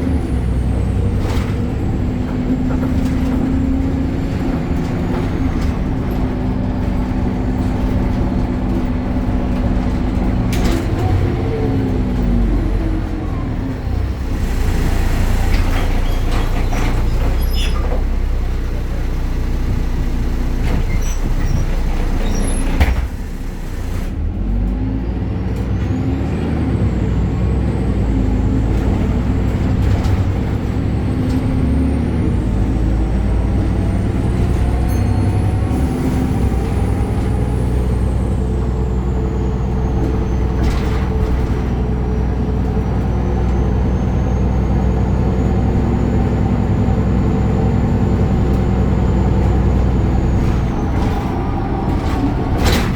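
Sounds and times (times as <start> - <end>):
bus diesel engine drone: 0.0 - 52.9.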